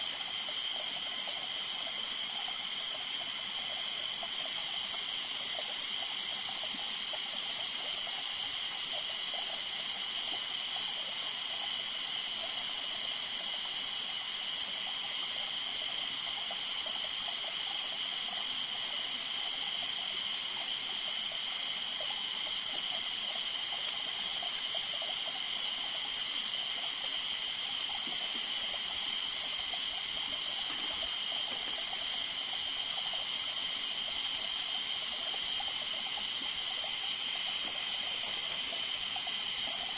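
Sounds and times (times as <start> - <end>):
high-pitched rainforest hiss: 0.0 - 39.9.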